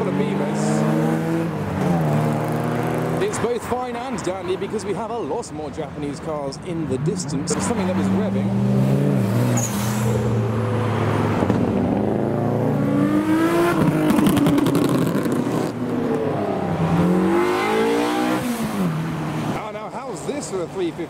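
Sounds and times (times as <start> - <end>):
car engines revving and accelerating: 0.0 - 21.0.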